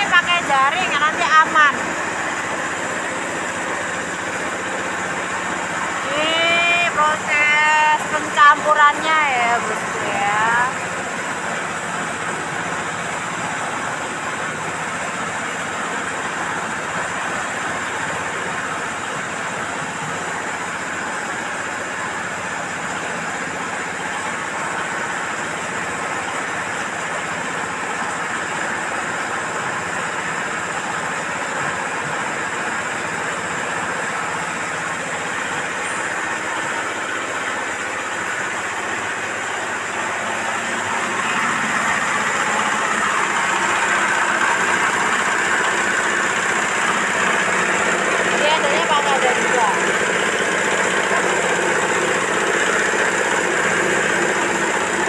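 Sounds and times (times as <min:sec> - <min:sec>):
feed mixer mechanical drone: 0:00.0 - 0:55.0.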